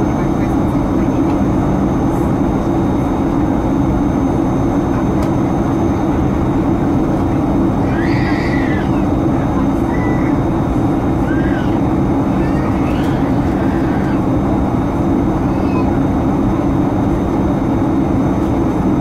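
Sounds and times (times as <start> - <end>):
airliner cabin roar: 0.0 - 19.0.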